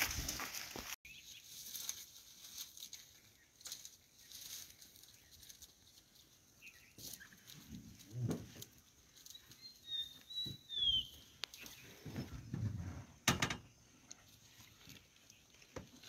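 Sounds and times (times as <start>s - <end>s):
grass rustling and crackling: 0.0s - 16.0s.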